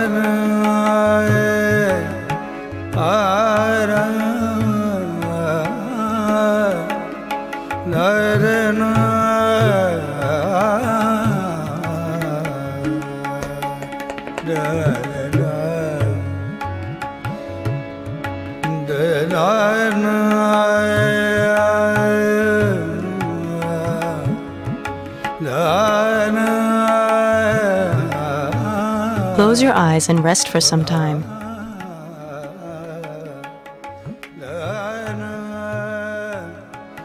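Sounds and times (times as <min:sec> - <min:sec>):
tabla strokes: 0:00.0 - 0:37.0.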